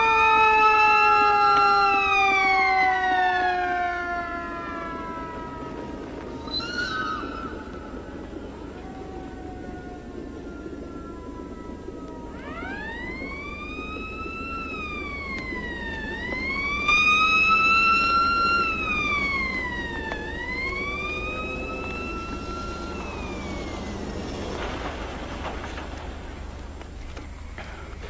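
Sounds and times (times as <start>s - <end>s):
low hum: 0.0s - 28.0s
siren wailing: 0.0s - 28.0s.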